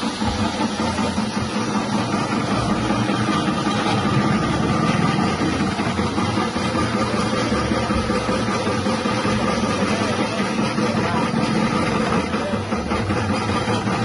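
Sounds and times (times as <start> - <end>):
machine rattling: 0.0 - 14.0.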